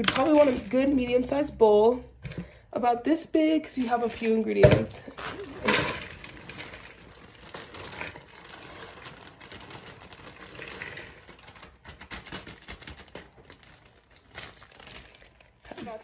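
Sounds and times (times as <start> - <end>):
shredded cabbage rustling into bowl: 0.0 - 1.2, 3.7 - 16.0
plastic bag crinkling: 0.0 - 1.6, 3.6 - 16.0.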